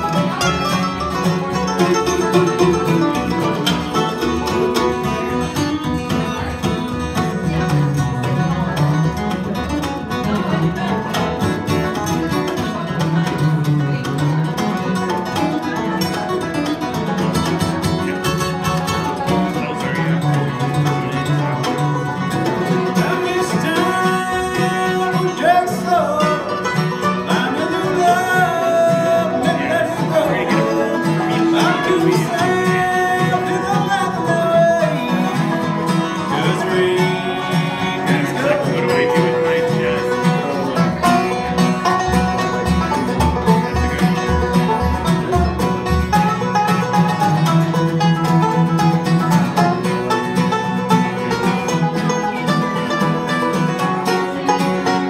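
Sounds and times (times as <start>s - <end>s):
bluegrass band playing: 0.0s - 55.0s.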